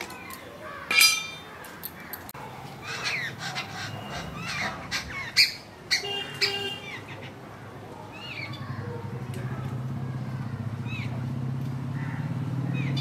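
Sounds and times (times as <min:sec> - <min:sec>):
birds squawking and calling: 0:00.1 - 0:11.3, 0:11.9 - 0:13.0.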